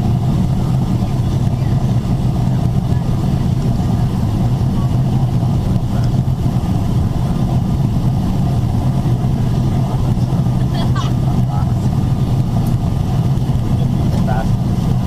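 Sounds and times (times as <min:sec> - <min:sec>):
airflow rush in aircraft cabin: 0:00.0 - 0:15.0
jet engines droning: 0:00.0 - 0:15.0
low hum: 0:00.0 - 0:15.0.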